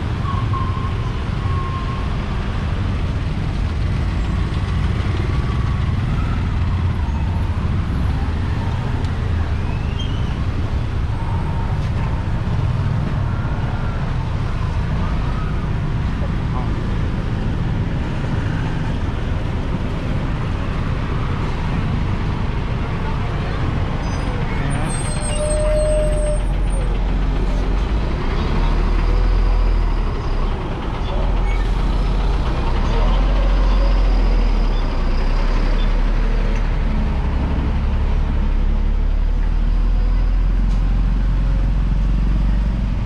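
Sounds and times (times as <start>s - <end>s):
street traffic: 0.0s - 43.0s.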